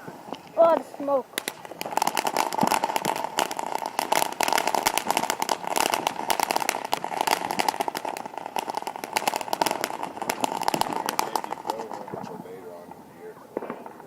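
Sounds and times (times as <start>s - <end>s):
firework crackling pops: 0.0s - 14.0s
steady hiss: 0.0s - 14.0s.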